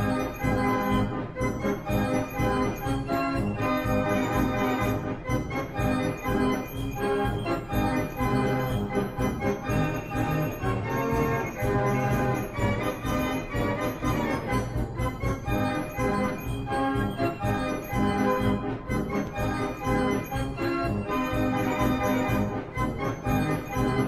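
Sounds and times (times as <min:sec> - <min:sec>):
keyboard playing held chords: 0:00.0 - 0:24.0.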